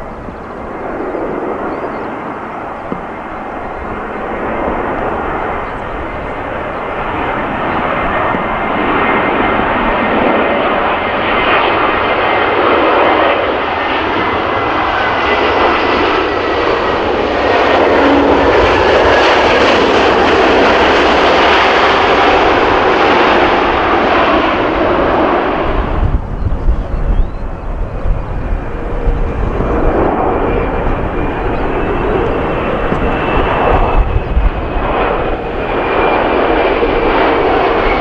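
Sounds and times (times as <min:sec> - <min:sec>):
jet airliner landing: 0:00.0 - 0:38.0.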